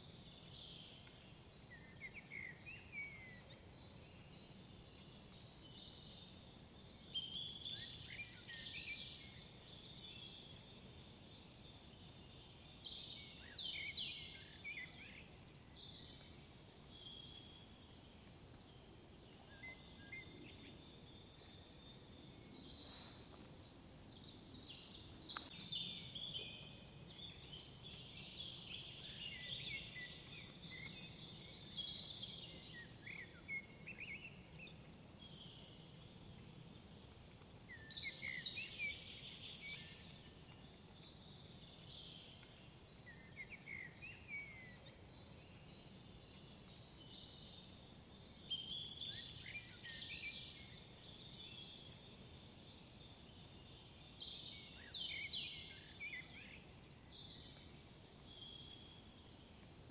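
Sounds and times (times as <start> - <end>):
woodland birds singing: 0.0 - 59.9.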